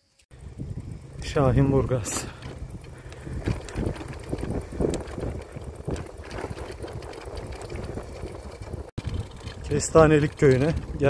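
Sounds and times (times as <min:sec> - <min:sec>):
bicycle tyre noise on asphalt: 0:00.1 - 0:11.0
wind rumbling on microphone: 0:00.3 - 0:11.0.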